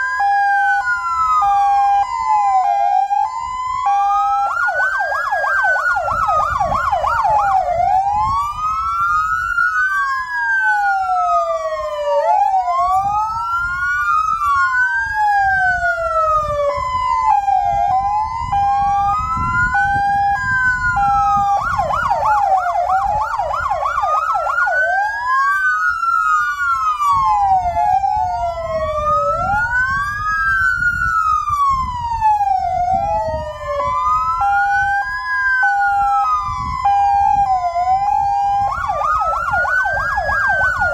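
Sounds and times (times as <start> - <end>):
sirens wailing: 0.0 - 40.9
sirens yelping fast: 0.0 - 40.9
two-tone hi-lo siren: 0.0 - 40.9.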